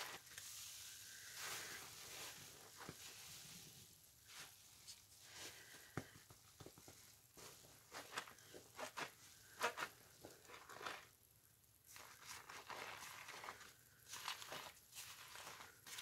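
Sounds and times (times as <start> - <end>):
wet sponge squishing: 0.0 - 6.0, 6.7 - 11.2, 11.8 - 16.0.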